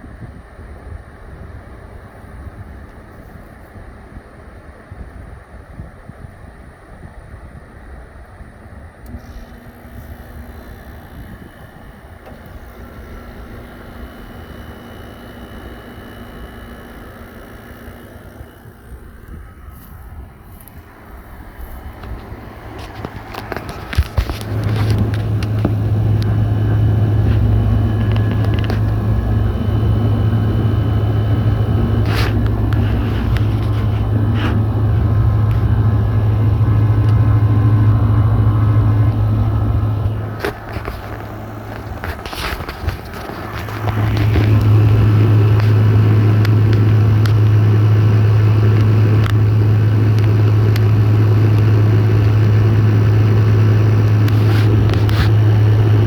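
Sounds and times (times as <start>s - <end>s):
window air conditioners humming: 0.0s - 56.0s.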